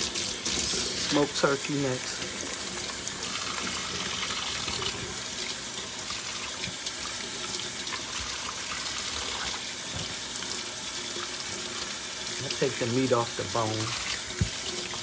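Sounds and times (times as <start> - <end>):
faucet running into steel sink: 0.0 - 15.0.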